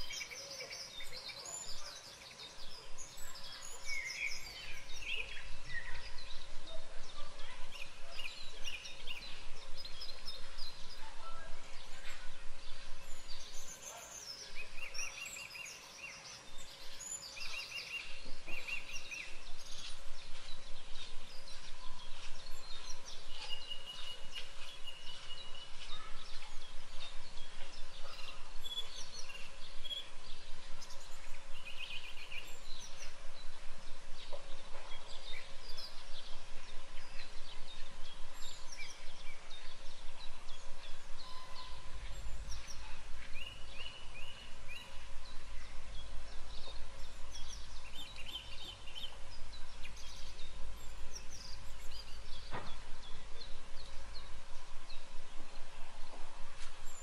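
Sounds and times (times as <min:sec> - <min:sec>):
wild birds singing: 0:00.0 - 0:57.0.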